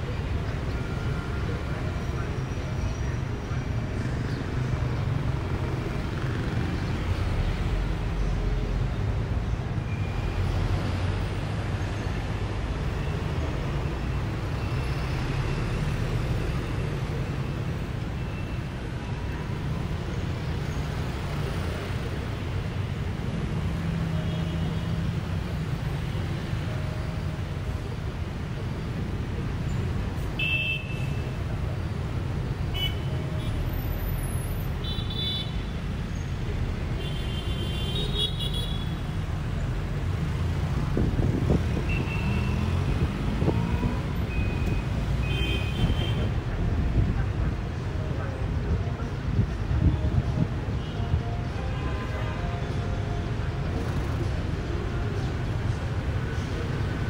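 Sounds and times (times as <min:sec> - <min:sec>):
traffic engines and road noise: 0:00.0 - 0:57.0.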